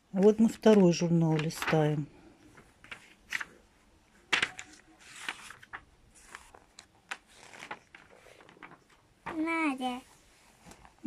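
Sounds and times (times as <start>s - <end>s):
magazine pages rustling: 0.2s - 9.6s.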